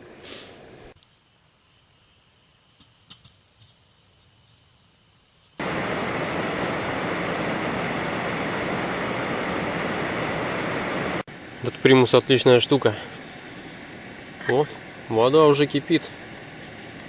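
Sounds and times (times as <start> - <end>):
stove burner hissing: 0.0 - 17.0.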